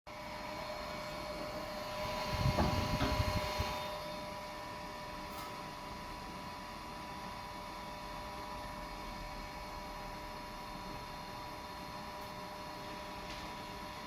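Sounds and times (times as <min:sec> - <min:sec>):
steady electrical whine: 0:00.1 - 0:14.0.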